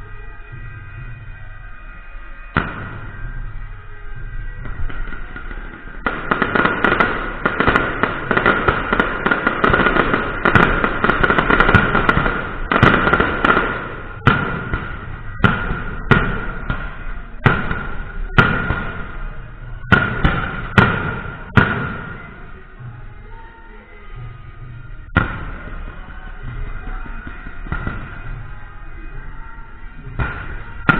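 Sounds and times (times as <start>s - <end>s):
fireworks crackling and banging: 0.0s - 30.9s.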